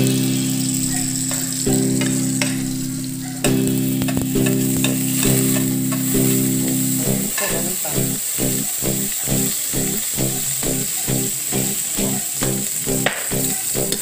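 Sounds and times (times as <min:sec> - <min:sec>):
background music: 0:00.0 - 0:14.0
hot pan sizzling: 0:00.0 - 0:14.0.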